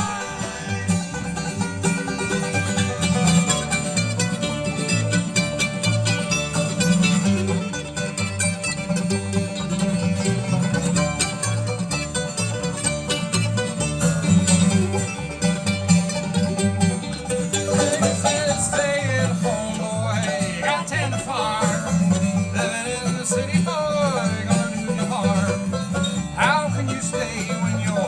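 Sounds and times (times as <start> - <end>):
banjo: 0.0 - 28.0
bass line: 0.0 - 28.0
guitar: 0.0 - 28.0
sliding lead melody: 0.0 - 28.0.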